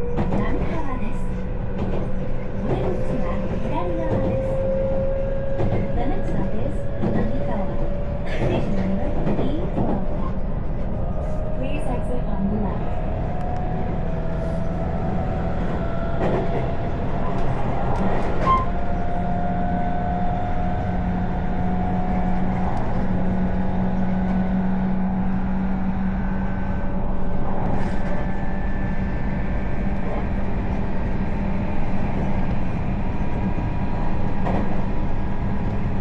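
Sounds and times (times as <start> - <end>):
train wheels rumbling on track: 0.0 - 36.0.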